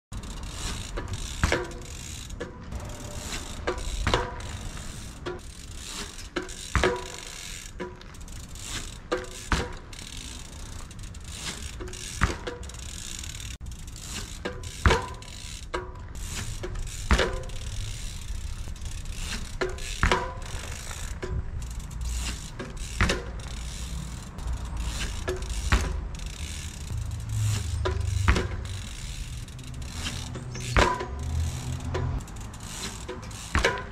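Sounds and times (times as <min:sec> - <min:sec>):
bicycle freewheel ticking: 0:00.1 - 0:33.9
bike landing on asphalt: 0:00.3 - 0:13.5, 0:14.1 - 0:33.9.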